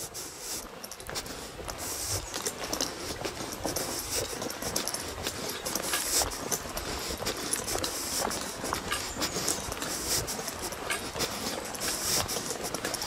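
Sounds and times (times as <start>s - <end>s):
footsteps crunching on gravel: 0.0s - 13.0s.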